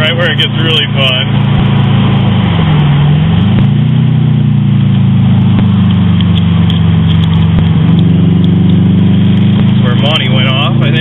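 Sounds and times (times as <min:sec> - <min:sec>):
car engine droning in cabin: 0:00.0 - 0:11.0.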